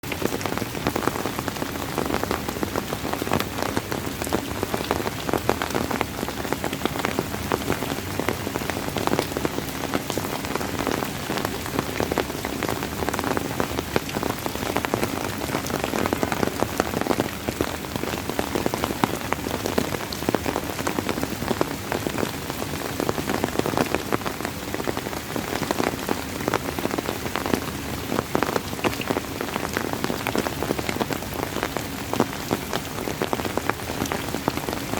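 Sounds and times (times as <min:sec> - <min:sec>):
rain pattering on surface: 0:00.0 - 0:34.9.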